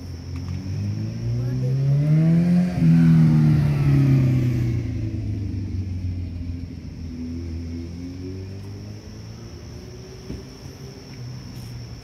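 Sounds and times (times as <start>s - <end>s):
vehicle accelerating past: 0.4s - 11.0s.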